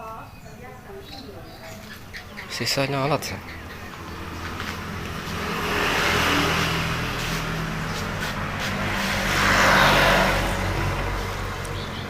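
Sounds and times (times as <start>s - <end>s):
vehicle approaching: 0.7s - 12.0s
vehicle passing on road: 1.4s - 12.0s.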